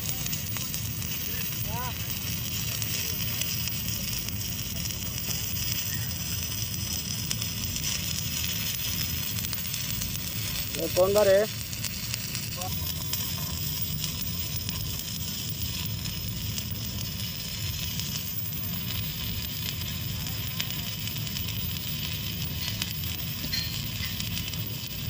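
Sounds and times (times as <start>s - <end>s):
welding arc crackling: 0.0s - 25.0s.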